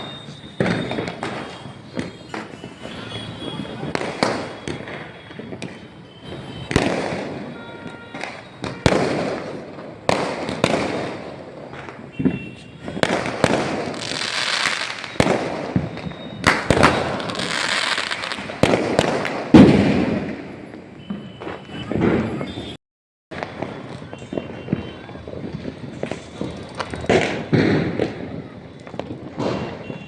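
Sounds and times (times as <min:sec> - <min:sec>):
fireworks hissing and crackling: 0:00.0 - 0:22.1, 0:23.3 - 0:30.0
fireworks bangs: 0:00.0 - 0:30.0.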